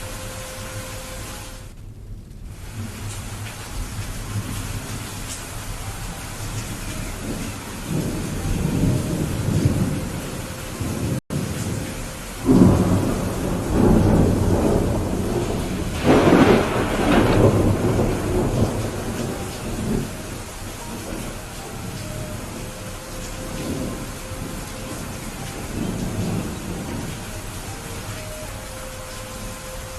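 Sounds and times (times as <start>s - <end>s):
heavy rain: 0.0s - 29.9s
thunder rumbling and crackling: 0.0s - 29.9s.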